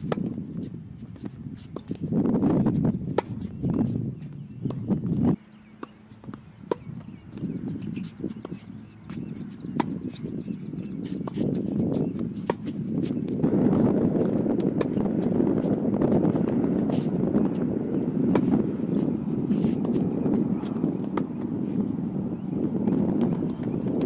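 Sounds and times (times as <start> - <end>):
wind rumble on microphone: 0.0 - 24.0
ball bouncing on hard court: 1.2 - 21.6, 22.8 - 24.0.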